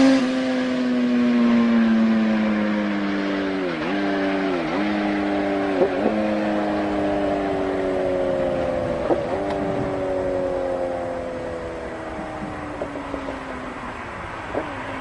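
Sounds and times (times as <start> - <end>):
motorcycle engine revving high: 0.0 - 14.7.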